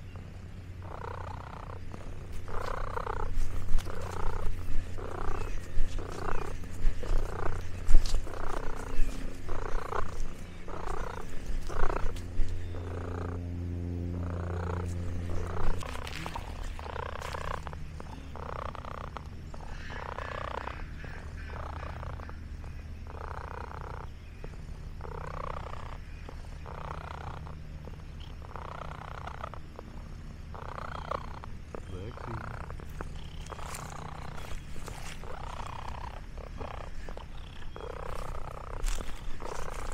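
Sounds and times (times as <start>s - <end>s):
cat purring: 0.0s - 39.9s
low steady hum: 0.0s - 39.9s.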